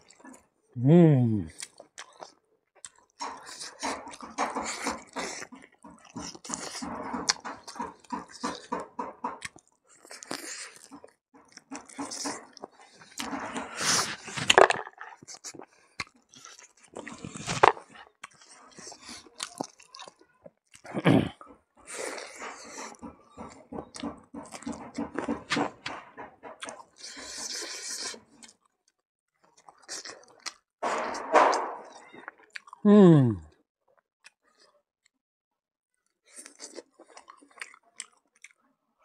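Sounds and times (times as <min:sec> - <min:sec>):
open-mouthed chewing: 0:00.0 - 0:00.5, 0:01.2 - 0:28.8, 0:29.4 - 0:31.2, 0:31.8 - 0:33.6, 0:36.0 - 0:38.6.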